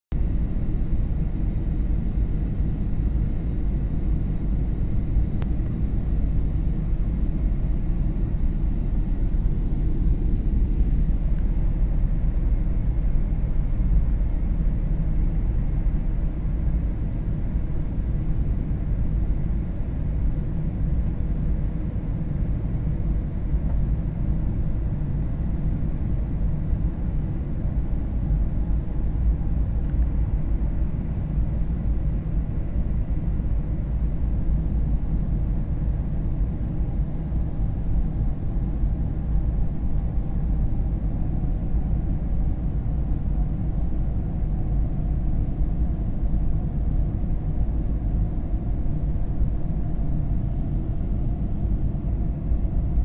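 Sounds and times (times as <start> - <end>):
jet airliner cabin rumble: 0.1 - 53.0.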